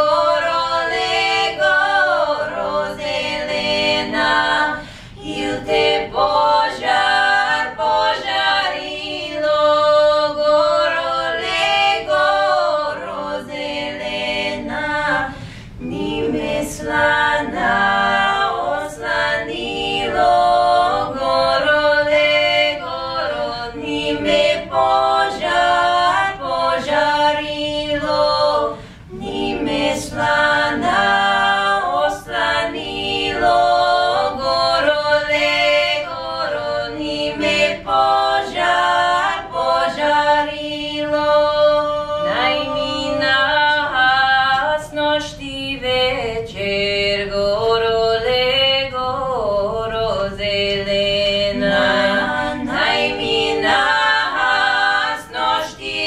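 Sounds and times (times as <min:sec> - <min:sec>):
women singing a cappella harmony: 0:00.0 - 0:56.0.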